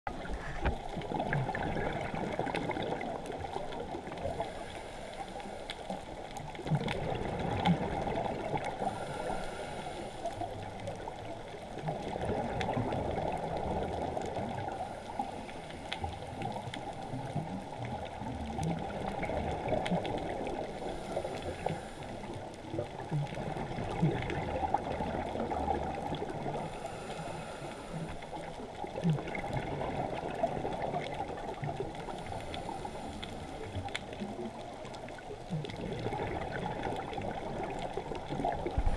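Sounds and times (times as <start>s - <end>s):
muffled underwater water rush: 0.1s - 38.9s
soft gurgles: 0.1s - 38.9s.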